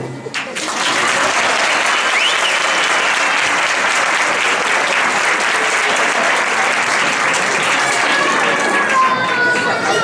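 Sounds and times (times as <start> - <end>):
audience applauding: 0.3 - 10.0.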